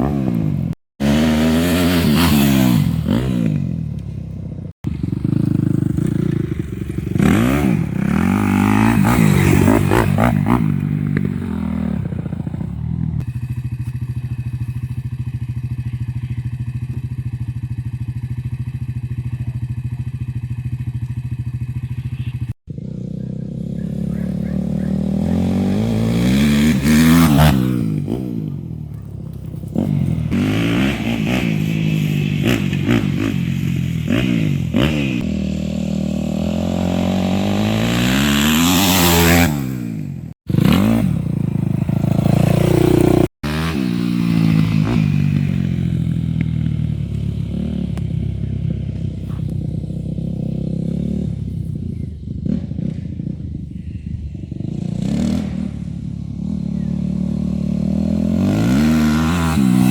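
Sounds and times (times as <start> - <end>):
dirt bike engine revving: 0.0 - 54.0, 54.6 - 59.9.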